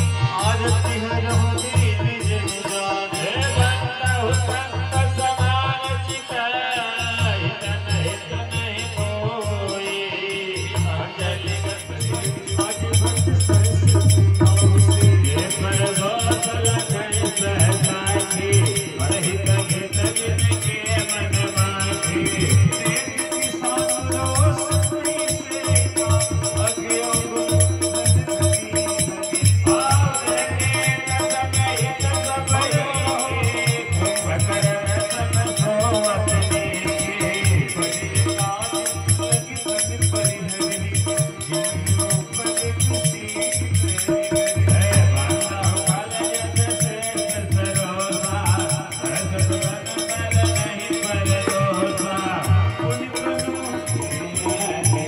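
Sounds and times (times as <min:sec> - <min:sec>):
dholak drumming: 0:00.0 - 0:55.0
hand percussion jingling: 0:00.0 - 0:55.0
harmonium melody: 0:00.0 - 0:55.0.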